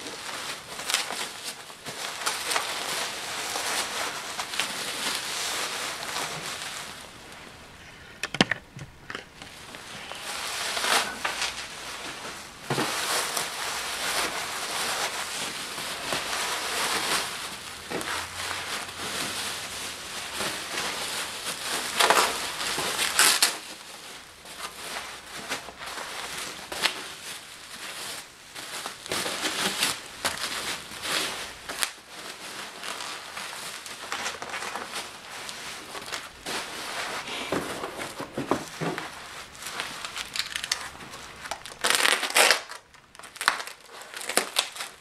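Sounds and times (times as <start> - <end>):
bubble wrap crinkling: 0.0 - 45.0.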